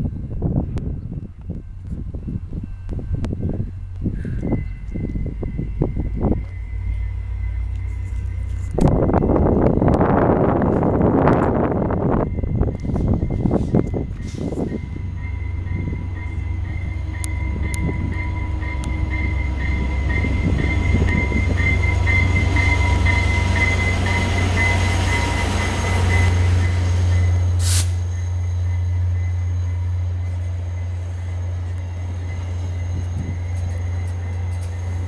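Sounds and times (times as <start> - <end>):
diesel locomotive engine drone: 0.0 - 35.0
high pulsing ring: 0.0 - 35.0
train wheels rumbling: 0.0 - 35.0.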